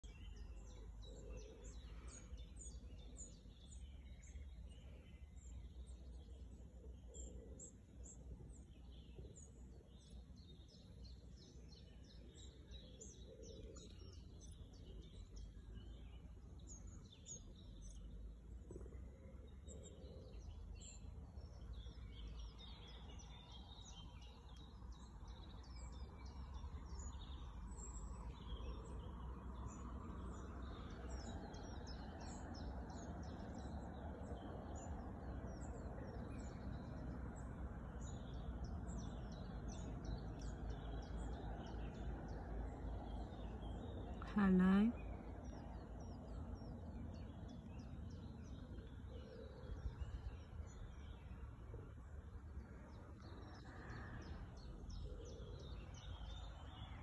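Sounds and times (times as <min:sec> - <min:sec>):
birds chirping faintly: 0:00.0 - 0:57.0.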